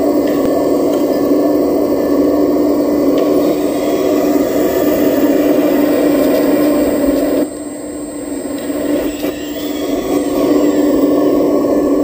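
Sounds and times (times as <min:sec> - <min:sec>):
model excavator motors humming: 0:00.0 - 0:12.0.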